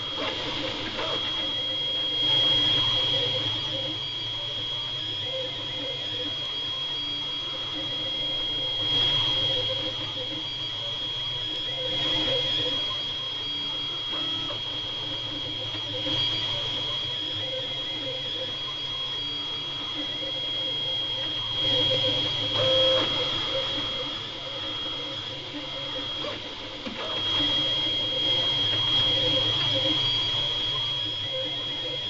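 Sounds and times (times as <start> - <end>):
three d printer whine: 0.0 - 32.0.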